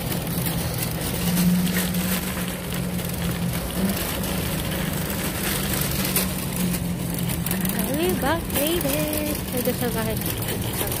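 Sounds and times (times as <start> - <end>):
shopping cart rattling on asphalt: 0.0 - 11.0.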